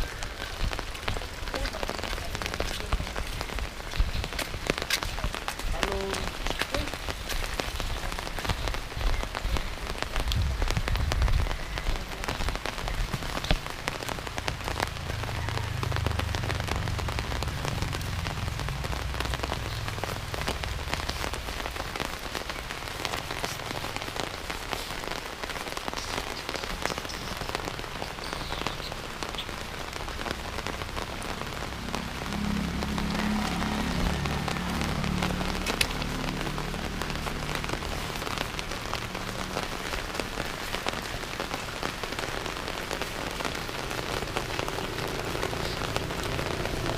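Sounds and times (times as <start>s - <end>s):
raindrops ticking on surfaces: 0.0s - 46.9s
steady rain falling: 0.0s - 46.9s.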